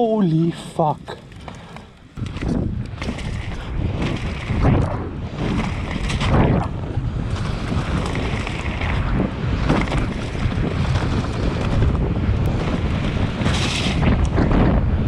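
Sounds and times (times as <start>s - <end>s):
wind rushing over microphone: 0.0s - 15.0s
bike rattling over bumps: 1.0s - 15.0s
tyres rolling over loose dirt: 1.1s - 15.0s.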